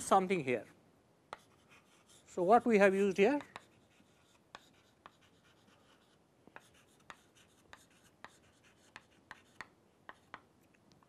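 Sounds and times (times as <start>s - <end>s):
chalk tapping and scratching: 1.3s - 10.8s.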